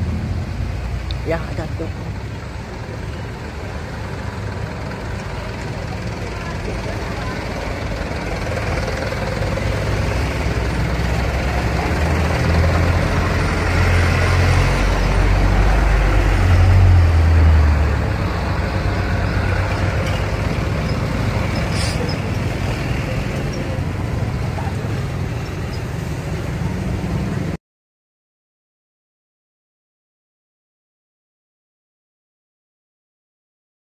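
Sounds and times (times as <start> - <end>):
heavy truck engine rumbling: 0.0 - 27.6.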